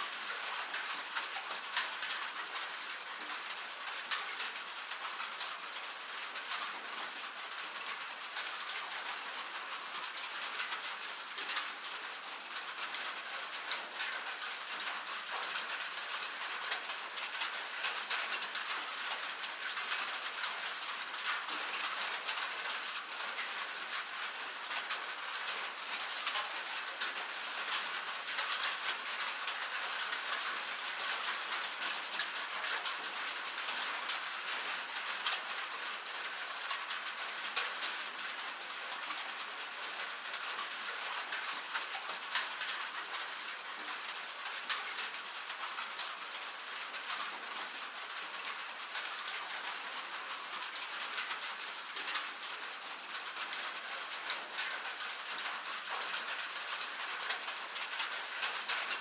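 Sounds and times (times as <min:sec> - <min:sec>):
rain on a metal roof: 0:00.0 - 0:59.0.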